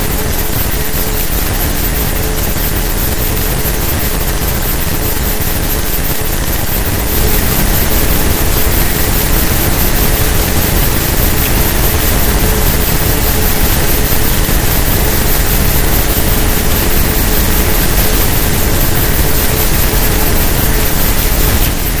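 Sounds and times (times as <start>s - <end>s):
faint hum: 0.0s - 22.0s
loud steady rushing noise: 0.0s - 22.0s.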